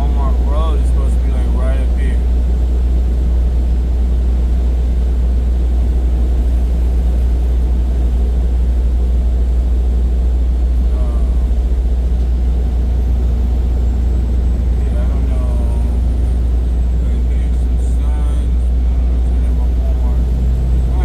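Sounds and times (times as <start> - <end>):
road noise inside cab: 0.0 - 21.0
truck engine drone: 0.0 - 21.0.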